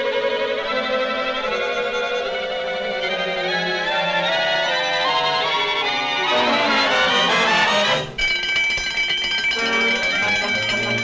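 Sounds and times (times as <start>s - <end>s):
orchestral music with strings: 0.0s - 11.0s.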